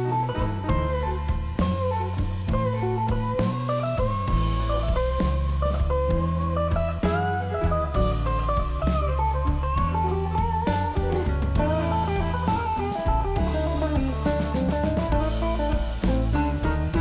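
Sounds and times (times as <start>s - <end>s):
bass: 0.0s - 17.0s
electric guitar melody: 0.0s - 17.0s
steady drum beat: 0.0s - 17.0s.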